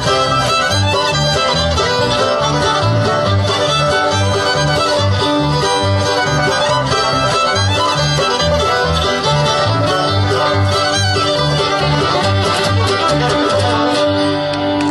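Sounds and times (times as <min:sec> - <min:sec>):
acoustic guitar: 0:00.0 - 0:14.9
banjo: 0:00.0 - 0:14.9
bass line: 0:00.0 - 0:14.9
fiddle: 0:00.0 - 0:14.9.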